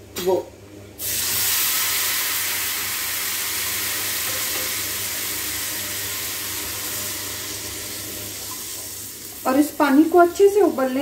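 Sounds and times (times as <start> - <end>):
hot oil sizzling: 1.0 - 11.0.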